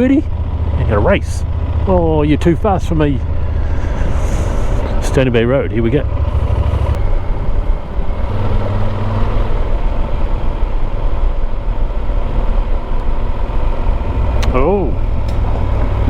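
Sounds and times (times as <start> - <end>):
motorcycle engine running: 0.0 - 16.0
road rumble: 0.0 - 16.0
heavy wind: 0.3 - 16.0.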